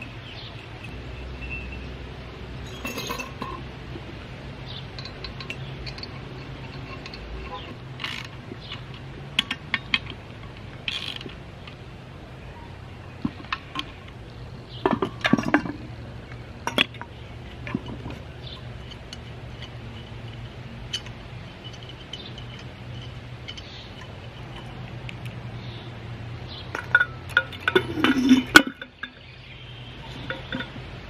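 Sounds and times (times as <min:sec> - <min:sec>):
metal parts and tools clinking: 0:02.6 - 0:03.7, 0:04.6 - 0:11.8, 0:13.0 - 0:25.8, 0:26.5 - 0:31.0.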